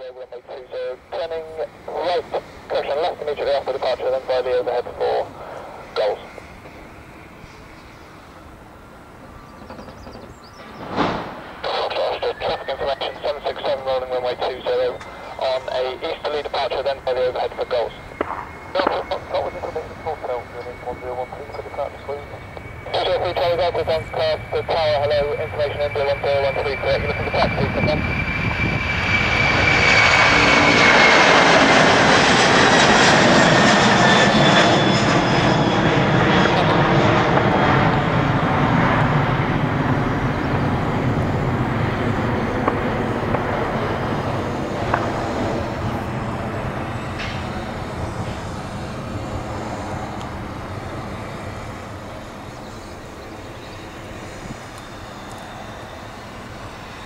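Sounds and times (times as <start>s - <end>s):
jet airliner engine roar: 0.0s - 57.0s.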